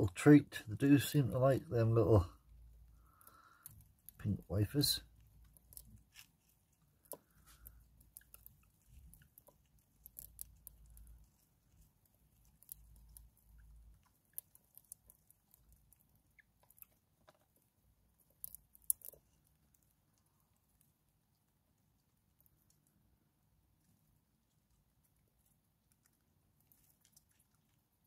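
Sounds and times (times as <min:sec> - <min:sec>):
mice nibbling a biscuit: 0:01.0 - 0:28.0.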